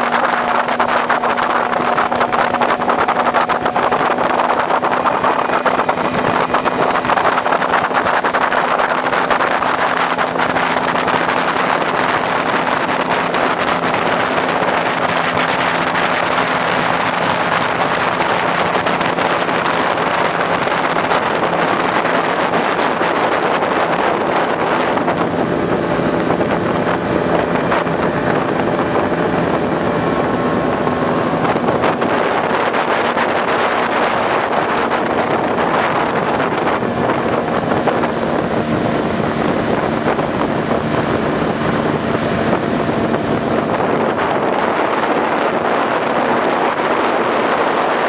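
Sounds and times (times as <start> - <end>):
outboard motor running: 0.0 - 48.0
water rushing past hull: 0.0 - 48.0
wind on microphone: 0.0 - 48.0.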